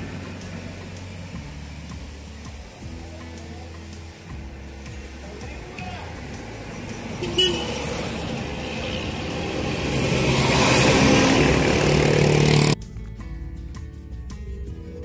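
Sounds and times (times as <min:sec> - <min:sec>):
road noise: 0:00.0 - 0:13.7
vehicle engine rumble: 0:00.0 - 0:15.0.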